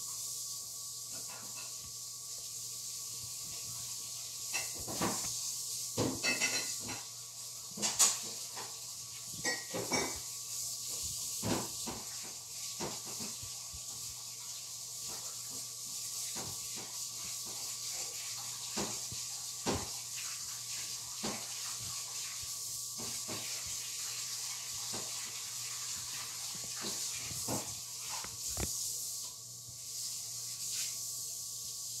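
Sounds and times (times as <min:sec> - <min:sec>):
steady background hiss: 0:00.0 - 0:32.0.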